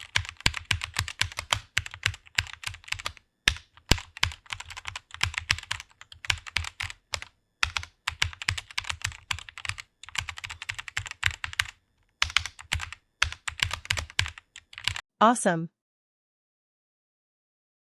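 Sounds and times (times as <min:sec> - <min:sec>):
fast typing on a computer keyboard: 0:00.0 - 0:15.0.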